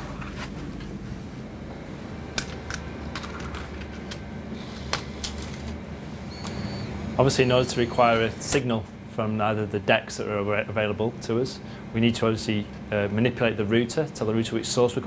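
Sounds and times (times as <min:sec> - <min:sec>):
low equipment hum: 0:00.0 - 0:15.0.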